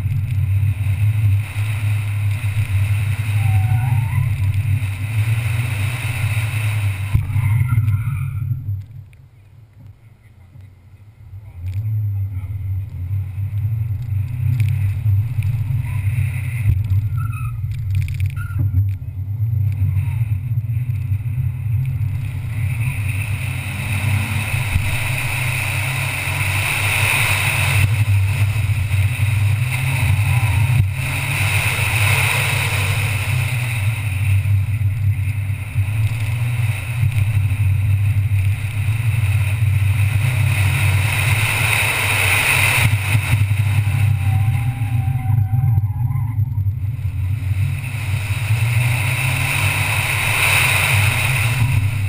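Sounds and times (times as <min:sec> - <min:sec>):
car engine drone: 0:00.0 - 0:52.0.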